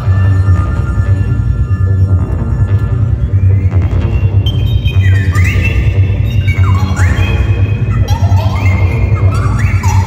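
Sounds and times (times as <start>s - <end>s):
pulsing synthesizer bass drone: 0.0s - 10.0s
synthesizer tones gliding in pitch: 0.0s - 10.0s.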